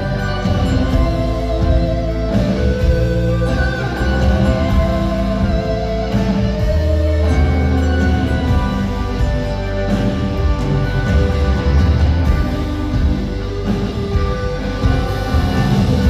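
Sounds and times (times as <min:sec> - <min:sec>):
live band playing a song: 0:00.0 - 0:16.0.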